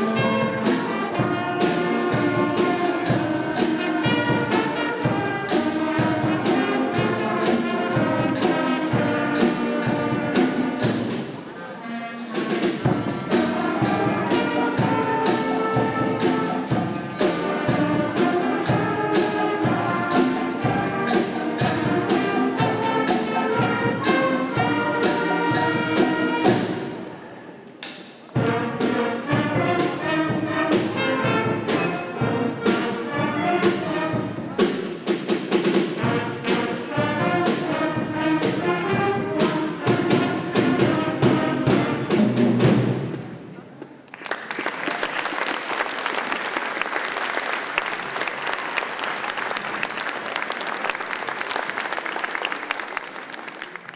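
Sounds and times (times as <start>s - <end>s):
concert band playing: 0.0s - 44.0s.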